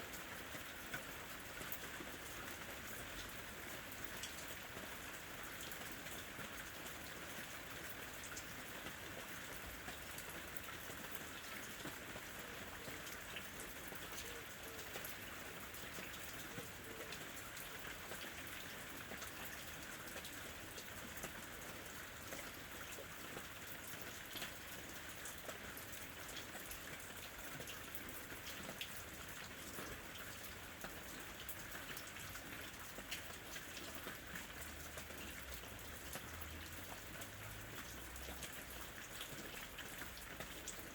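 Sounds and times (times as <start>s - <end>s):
raindrops pattering on a surface: 0.0s - 40.9s
steady rain falling: 0.0s - 40.9s.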